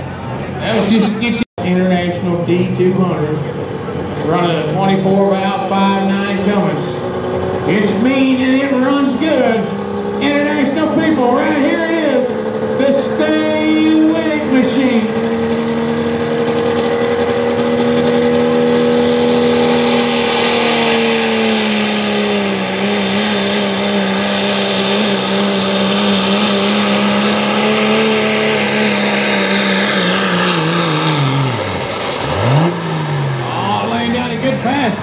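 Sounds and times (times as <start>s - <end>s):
diesel engine under load: 0.0s - 35.0s
turbo whine: 5.4s - 34.8s.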